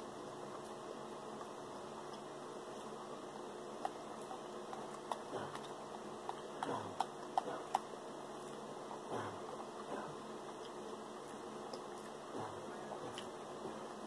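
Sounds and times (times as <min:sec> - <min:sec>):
person chewing food: 0:00.3 - 0:14.0.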